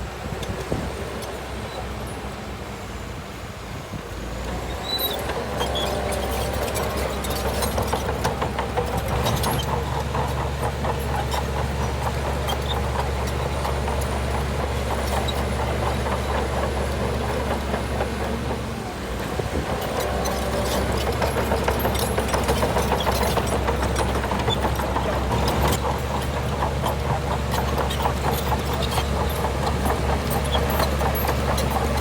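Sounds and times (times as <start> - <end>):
bulldozer diesel engine clattering: 0.0 - 32.0.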